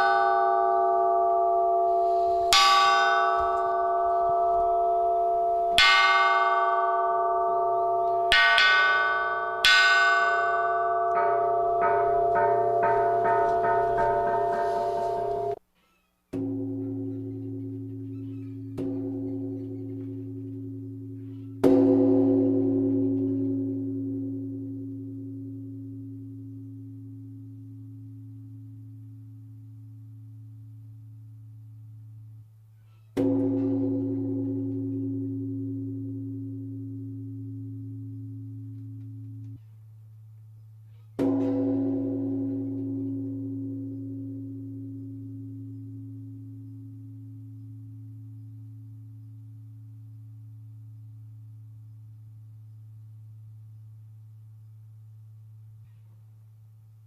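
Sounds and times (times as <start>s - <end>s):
large temple bell ringing: 0.0s - 15.6s, 16.4s - 32.4s, 33.1s - 40.0s, 41.0s - 50.6s.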